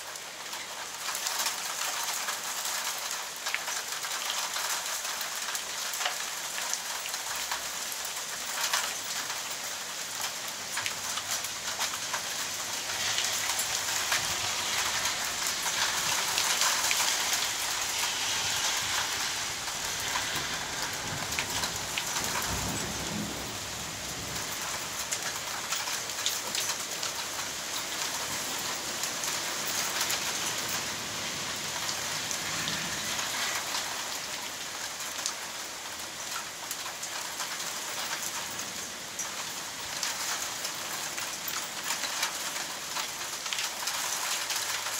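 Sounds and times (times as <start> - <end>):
hailstones ticking: 0.0 - 44.9
heavy rain: 0.0 - 44.9.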